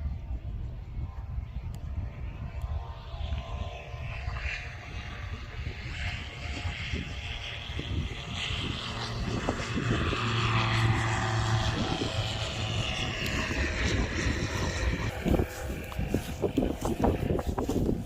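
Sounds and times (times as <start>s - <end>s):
propeller aircraft flying past: 0.0s - 18.0s.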